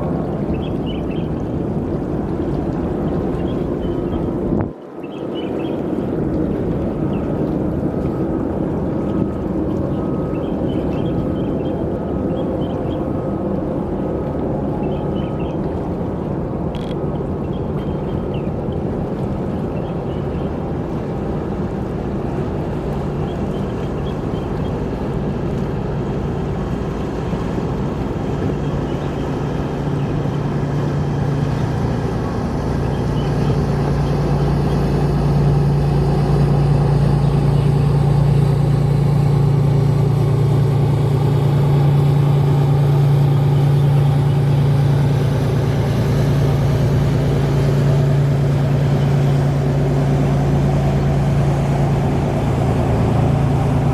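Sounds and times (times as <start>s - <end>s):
boat engine drone: 0.0s - 53.9s.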